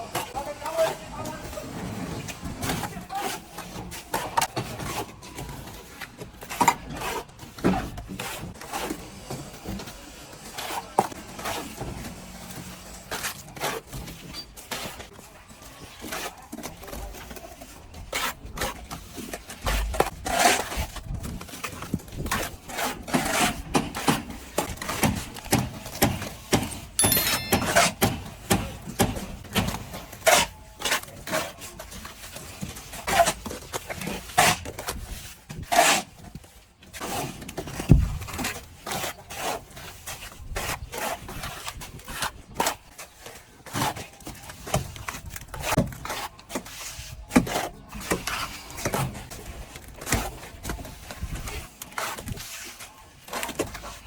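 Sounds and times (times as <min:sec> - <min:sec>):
trowel scraping over a wall: 0:01.6 - 0:15.2, 0:17.1 - 0:26.8, 0:29.7 - 0:54.0.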